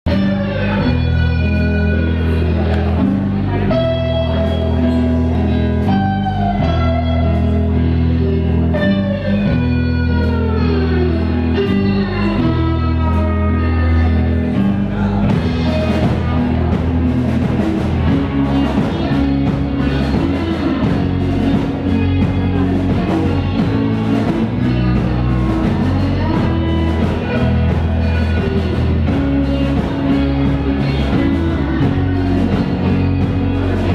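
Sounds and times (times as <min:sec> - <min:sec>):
electric guitar sliding notes: 0:00.1 - 0:33.9
repeating bass line: 0:00.1 - 0:33.9
rock band playing: 0:00.1 - 0:33.9.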